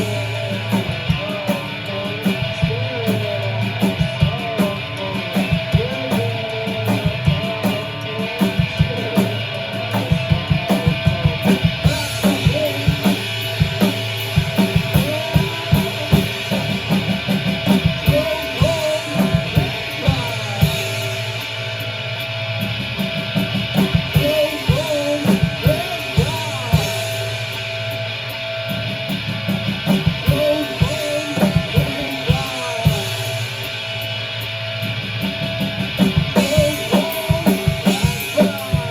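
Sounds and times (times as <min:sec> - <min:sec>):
drum kit beating: 0:00.0 - 0:38.9
guitars: 0:00.0 - 0:38.9.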